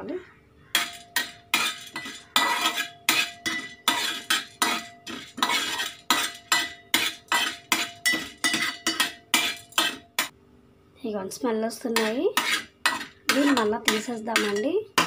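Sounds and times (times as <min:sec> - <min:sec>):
metal spoon scraping a steel pan: 0:00.7 - 0:10.3, 0:11.9 - 0:15.0.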